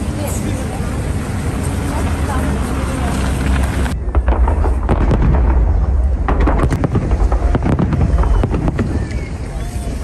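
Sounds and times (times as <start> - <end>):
continuous low rumble: 0.0 - 10.0
fireworks bangs and crackles: 0.0 - 10.0.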